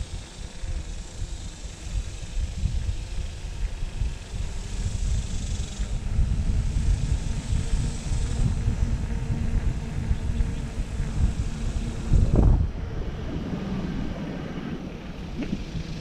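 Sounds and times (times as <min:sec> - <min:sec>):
wind buffeting microphone: 0:00.0 - 0:16.0
bike tyres rolling on concrete: 0:01.9 - 0:16.0.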